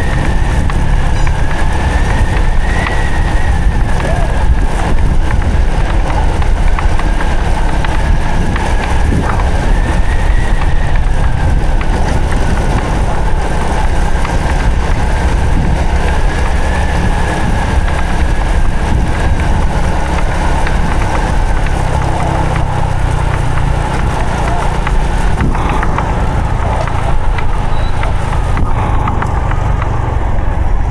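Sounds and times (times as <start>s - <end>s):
loud low rumble: 0.0s - 30.9s
motorcycle engine running: 0.0s - 30.9s.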